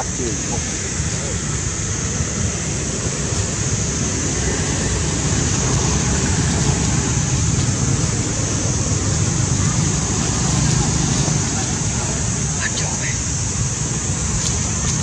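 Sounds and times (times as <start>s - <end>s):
constant high hiss: 0.0s - 15.0s
low wind rumble on microphone: 0.0s - 15.0s.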